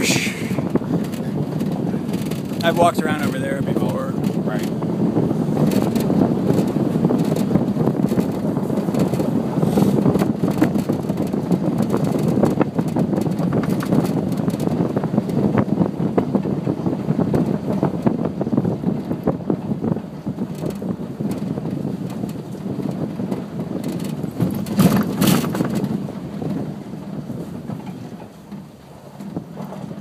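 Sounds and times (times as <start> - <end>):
truck road noise: 0.0 - 30.0
wind buffeting microphone: 0.0 - 30.0.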